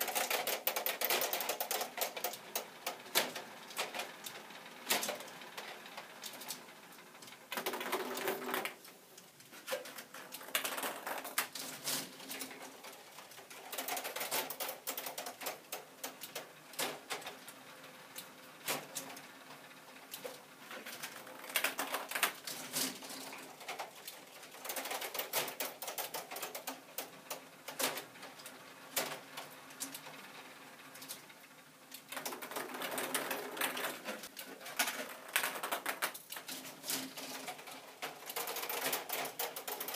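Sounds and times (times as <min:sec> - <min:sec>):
plastic mechanism clicking and clattering: 0:00.0 - 0:06.6, 0:07.2 - 0:08.8, 0:09.6 - 0:17.5, 0:20.1 - 0:30.1, 0:31.9 - 0:39.9.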